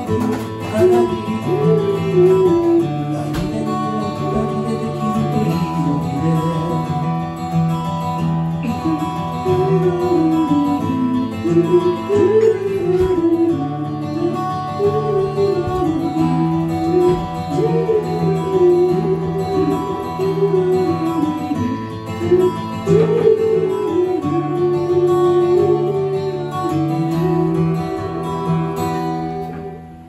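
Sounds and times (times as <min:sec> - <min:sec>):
acoustic guitar: 0:00.0 - 0:30.0
man singing slow melody: 0:00.0 - 0:30.0.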